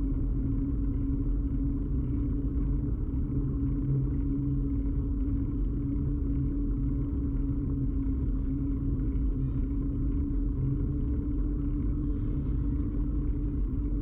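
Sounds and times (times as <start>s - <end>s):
bicycle road vibration rumble: 0.0s - 14.0s.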